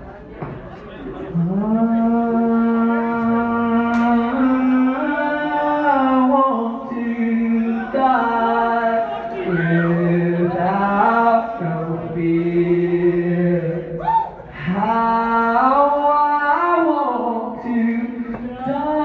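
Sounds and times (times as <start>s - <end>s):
man singing wordless notes: 1.2s - 19.0s.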